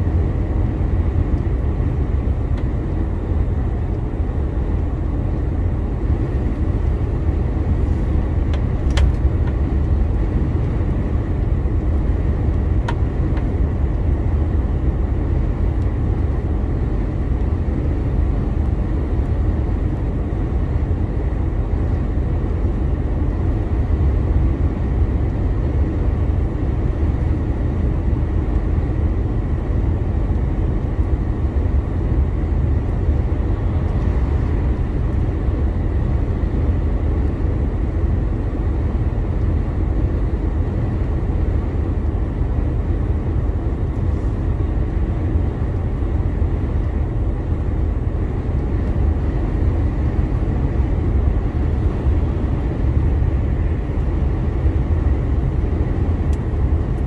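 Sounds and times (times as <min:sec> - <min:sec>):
lorry diesel engine driving: 0:00.0 - 0:57.0.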